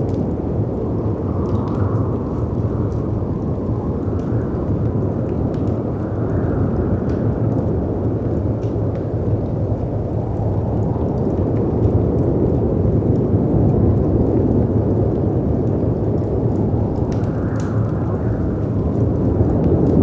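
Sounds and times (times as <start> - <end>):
deep rumble of wind: 0.0 - 20.0
wood fire crackling: 0.0 - 20.0.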